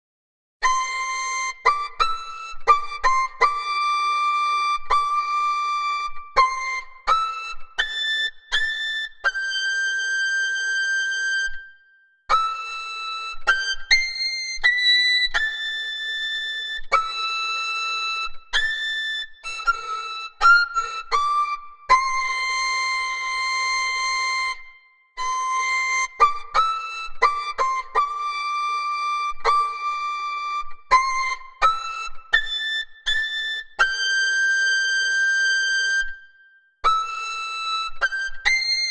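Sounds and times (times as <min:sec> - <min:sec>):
whistle-like wind instrument melody: 0:00.6 - 0:38.9.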